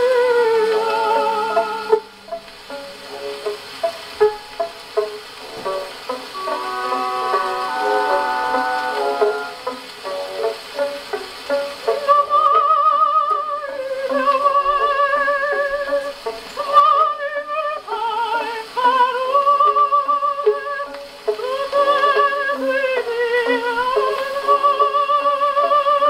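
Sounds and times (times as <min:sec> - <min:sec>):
gramophone record playing melody: 0:00.0 - 0:26.0.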